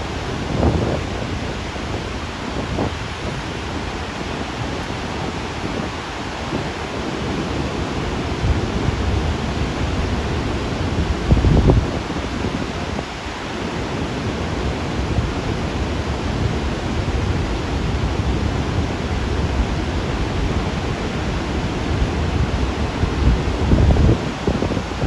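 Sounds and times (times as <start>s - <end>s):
water rushing through floodgates: 0.0s - 25.0s.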